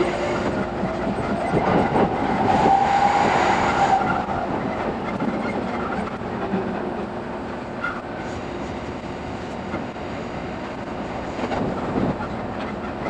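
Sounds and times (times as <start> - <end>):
train rail and running noise: 0.0 - 13.0.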